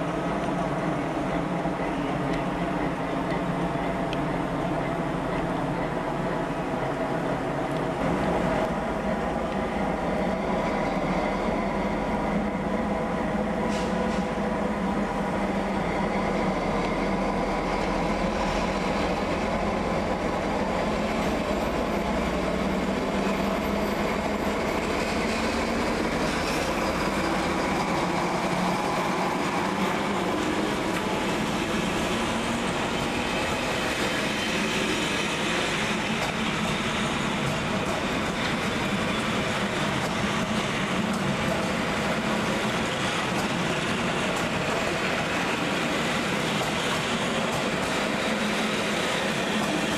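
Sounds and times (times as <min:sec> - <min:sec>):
train rumbling on rails: 0:00.0 - 0:49.9.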